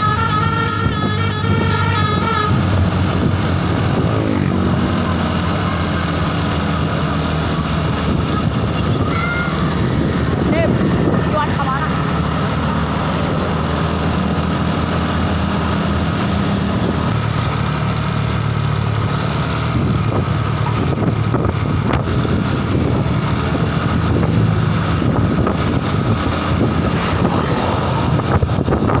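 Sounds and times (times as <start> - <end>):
road noise: 0.0 - 29.0
vehicle engine running: 0.0 - 29.0.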